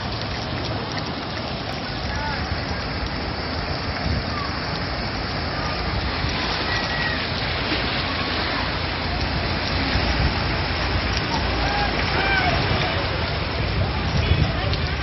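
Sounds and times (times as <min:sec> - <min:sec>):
flowing floodwater: 0:00.0 - 0:15.0
heavy rain: 0:00.0 - 0:15.0
water surging around truck: 0:00.0 - 0:15.0.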